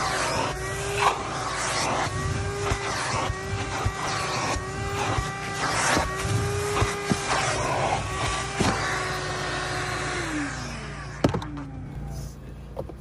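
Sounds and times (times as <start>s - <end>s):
shop vacuum running: 0.0s - 13.0s.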